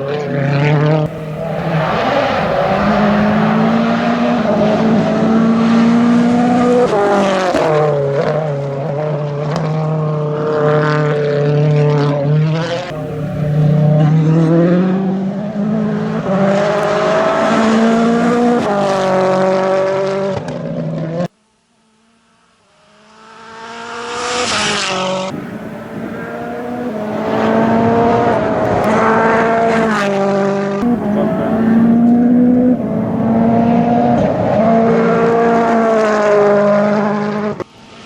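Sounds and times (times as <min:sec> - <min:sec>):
rally car engines revving: 0:00.0 - 0:21.3, 0:22.8 - 0:38.0
car passing by: 0:00.1 - 0:20.3, 0:22.9 - 0:38.0.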